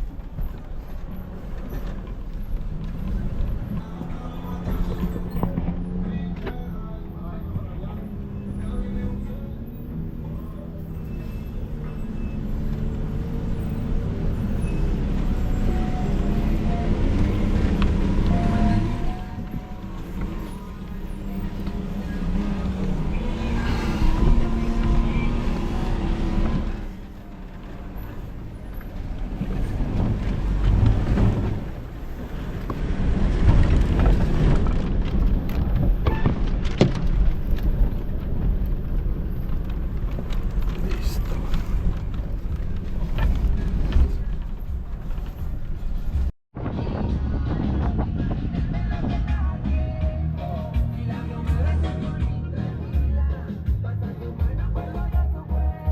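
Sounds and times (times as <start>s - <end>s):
tyre noise on rocky trail: 0.0s - 46.3s
truck engine rumble: 0.0s - 55.9s.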